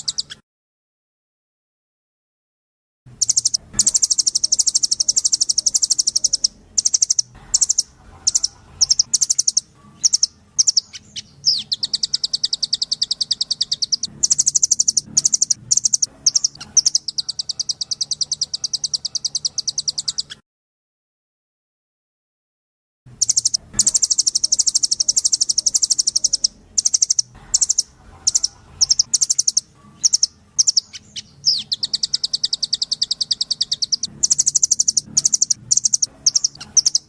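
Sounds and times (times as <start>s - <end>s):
bird song rapid high trills: 3.1s - 20.4s, 23.2s - 37.0s.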